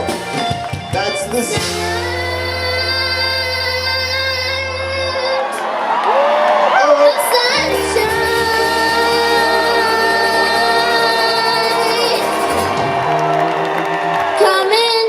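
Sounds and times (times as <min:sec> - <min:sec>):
live band playing: 0:00.0 - 0:05.3, 0:07.2 - 0:15.0
person singing: 0:00.0 - 0:05.6, 0:06.7 - 0:13.6, 0:14.3 - 0:15.0
crowd shouting and whooping: 0:00.0 - 0:15.0.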